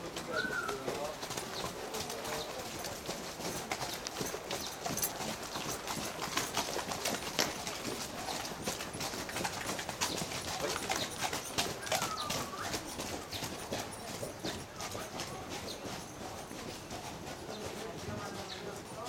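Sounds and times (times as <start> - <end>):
horse hooves on dirt: 0.0 - 19.0.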